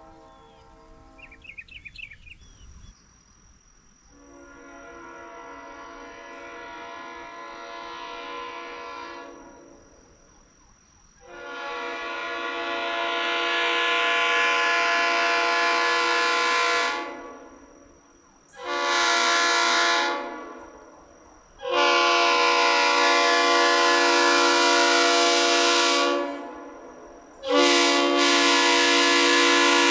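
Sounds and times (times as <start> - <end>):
locomotive air horn blasts: 0.0 - 1.5, 4.1 - 10.0, 11.2 - 17.7, 18.5 - 21.0, 21.6 - 29.9.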